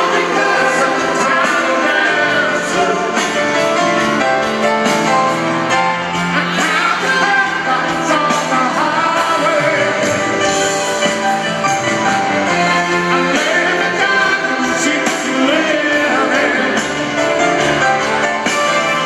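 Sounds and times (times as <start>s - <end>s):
lead vocalist singing: 0.0s - 4.2s, 6.2s - 10.8s, 12.4s - 19.0s
live band playing: 0.0s - 19.0s.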